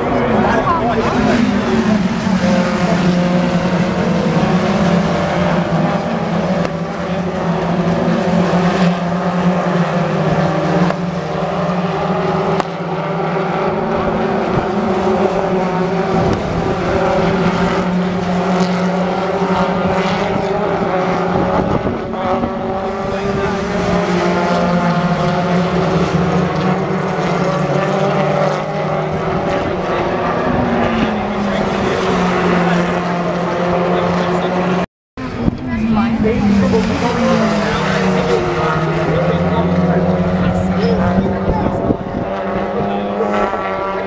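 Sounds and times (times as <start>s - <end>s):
racing car engines passing: 0.0s - 44.0s.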